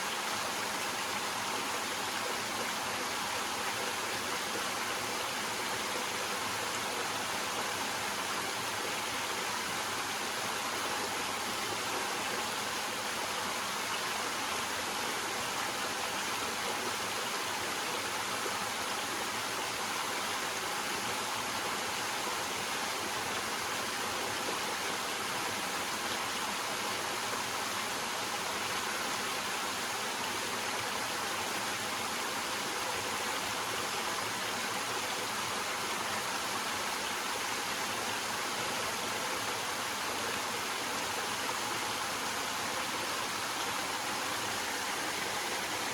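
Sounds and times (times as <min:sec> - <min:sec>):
water flowing over rocks: 0:00.0 - 0:45.9.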